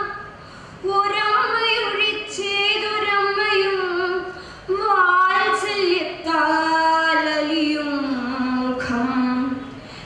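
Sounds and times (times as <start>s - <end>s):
girl singing unaccompanied: 0.0s - 9.7s.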